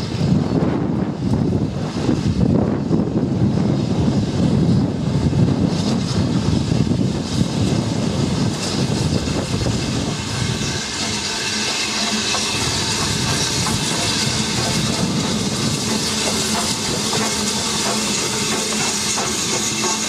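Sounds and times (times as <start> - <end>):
steam locomotive rumbling: 0.0 - 20.0.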